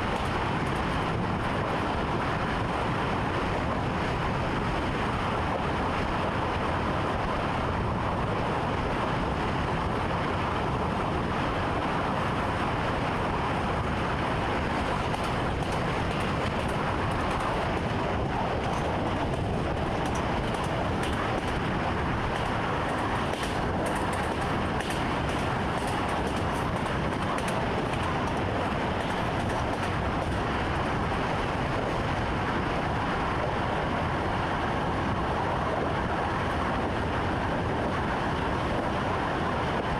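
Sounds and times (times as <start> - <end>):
train rumbling from cab: 0.0 - 39.9.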